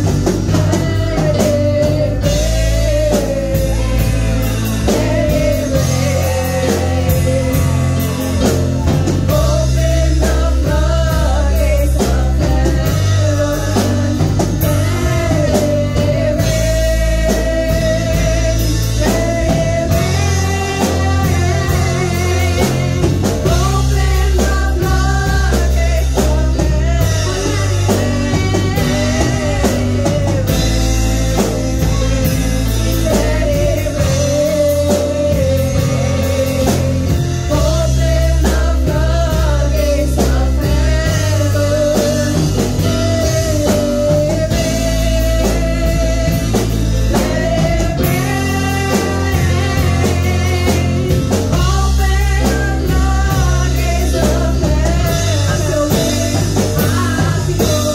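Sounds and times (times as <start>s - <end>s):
live band playing: 0.0s - 57.9s
women singing worship song: 0.0s - 57.9s.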